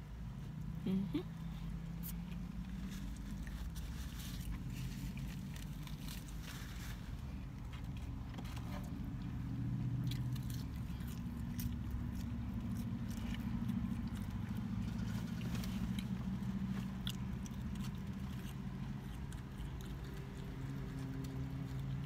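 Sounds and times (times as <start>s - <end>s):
car engine idling: 0.0s - 22.0s
wet chewing: 1.9s - 22.0s.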